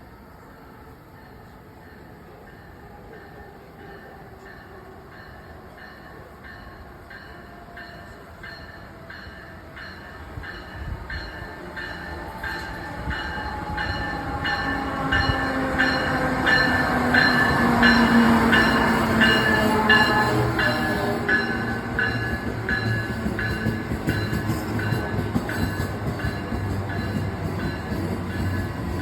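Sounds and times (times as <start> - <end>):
passenger train approaching: 0.0 - 29.0.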